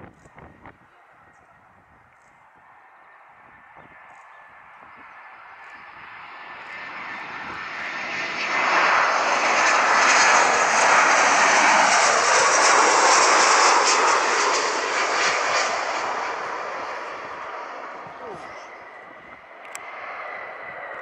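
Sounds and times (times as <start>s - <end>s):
aircraft engines roaring: 0.1s - 21.0s.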